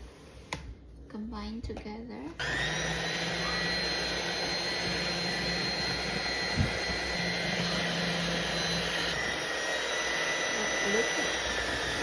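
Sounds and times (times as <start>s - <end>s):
electric mixer motor whine: 2.4s - 12.0s.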